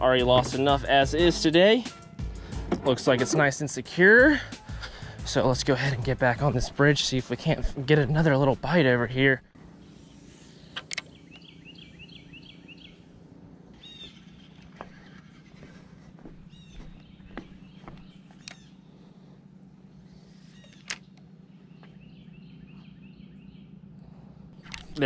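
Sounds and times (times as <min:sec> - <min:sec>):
low steady hum: 0:00.0 - 0:25.0
songbirds chirping: 0:00.0 - 0:25.0.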